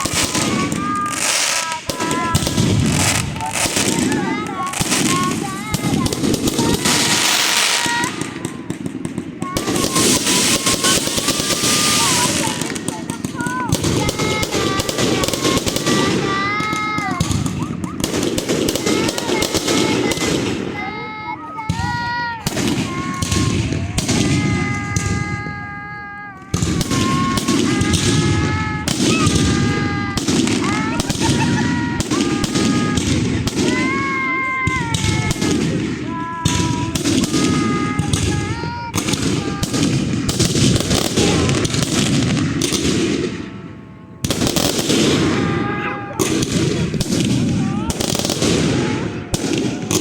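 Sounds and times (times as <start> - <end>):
fireworks crackling and banging: 0.0 - 50.0
whistling fireworks: 0.0 - 50.0.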